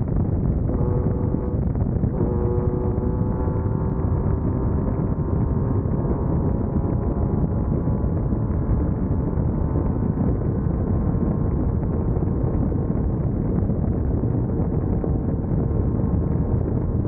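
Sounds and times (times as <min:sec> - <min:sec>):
race car engine drone: 0:00.0 - 0:17.0
wind rushing over microphone: 0:00.0 - 0:17.0.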